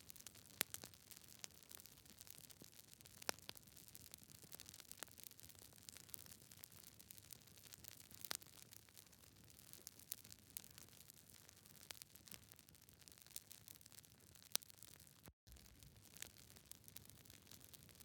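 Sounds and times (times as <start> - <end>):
wood fire crackling: 0.1 - 18.0.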